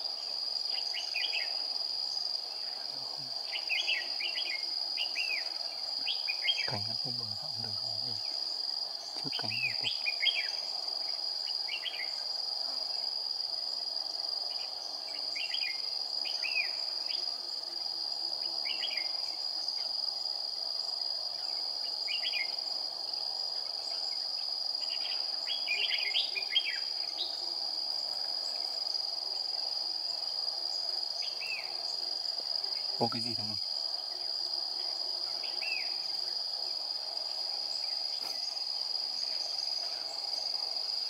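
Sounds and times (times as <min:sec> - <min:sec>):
insect drone: 0:00.0 - 0:41.0.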